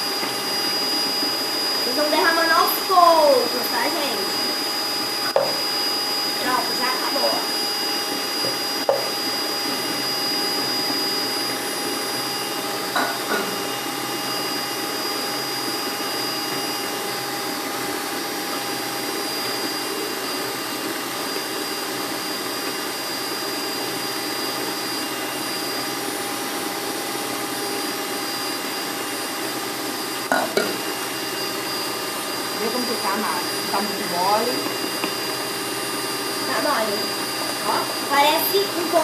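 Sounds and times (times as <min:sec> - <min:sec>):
stand mixer motor whining: 0:00.0 - 0:39.0.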